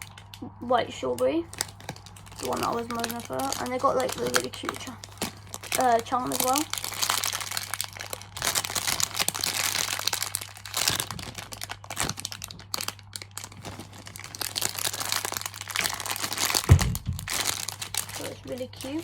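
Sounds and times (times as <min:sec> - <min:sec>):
plastic packaging crinkling: 0:00.0 - 0:00.4, 0:01.1 - 0:19.0.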